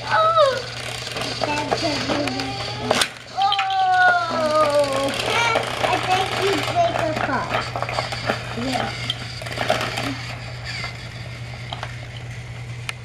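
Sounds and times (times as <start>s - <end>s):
children murmuring: 0.0s - 12.3s
steady low hum: 0.0s - 13.0s
plastic toy pieces clicking: 0.5s - 12.3s.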